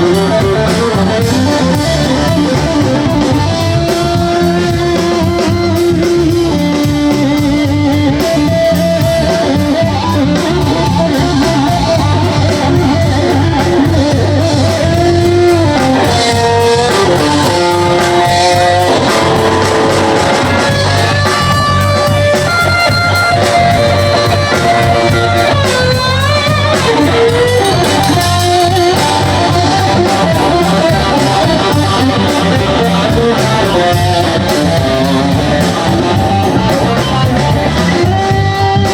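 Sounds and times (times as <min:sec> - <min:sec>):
bass: 0:00.0 - 0:38.9
drums: 0:00.0 - 0:38.9
lead electric guitar: 0:00.0 - 0:38.9.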